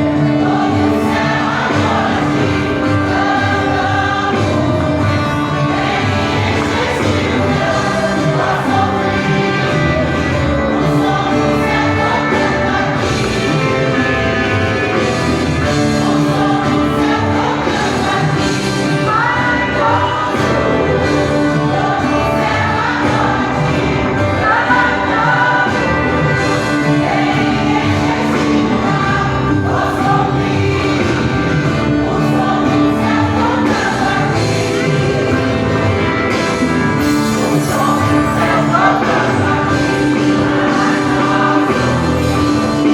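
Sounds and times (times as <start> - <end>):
choir singing with instruments: 0.0 - 42.9.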